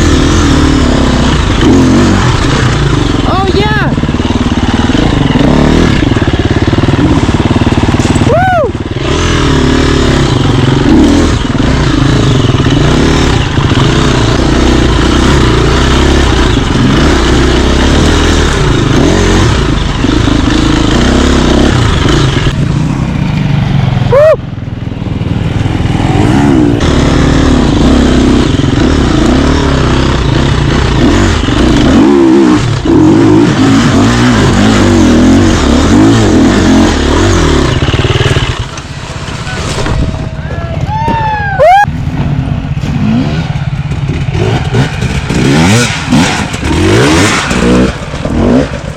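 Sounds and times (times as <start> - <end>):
dirt bike engine revving: 0.0 - 24.4, 25.2 - 48.9.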